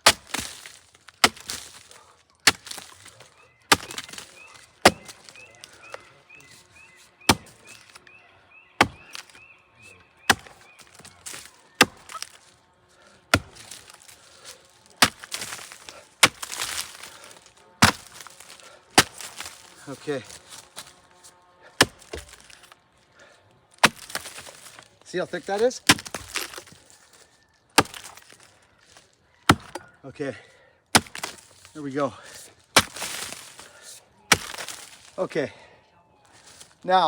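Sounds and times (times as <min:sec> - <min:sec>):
axe chopping rotten wood: 0:00.0 - 0:08.1, 0:08.8 - 0:12.5, 0:13.2 - 0:22.8, 0:23.7 - 0:29.9, 0:30.9 - 0:35.2.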